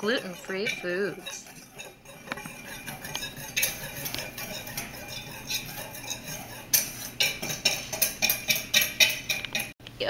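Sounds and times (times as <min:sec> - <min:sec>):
metal utensils clinking on cookware: 0:00.0 - 0:09.8.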